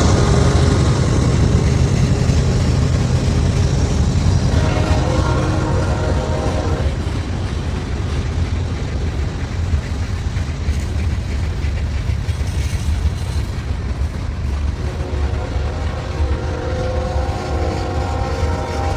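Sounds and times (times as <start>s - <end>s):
diesel locomotives rumbling: 0.0s - 18.9s.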